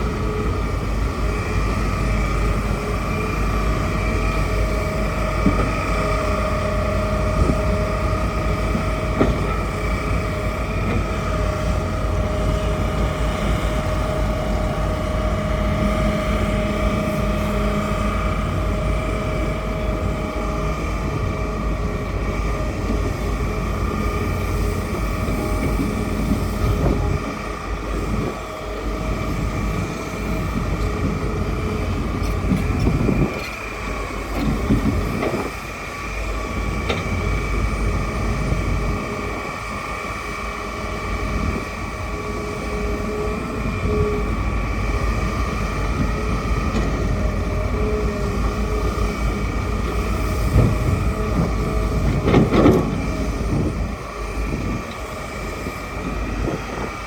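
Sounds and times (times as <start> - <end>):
excavator engine rumble and whine: 0.0 - 57.0.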